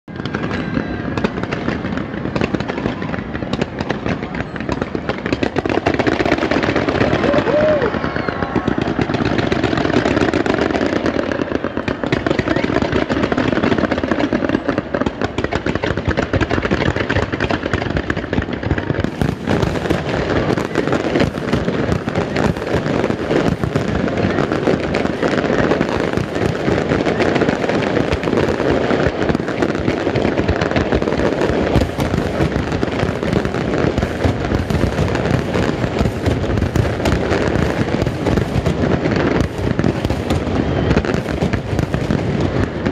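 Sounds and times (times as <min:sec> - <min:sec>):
fireworks bursting and crackling: 0:00.0 - 0:42.9.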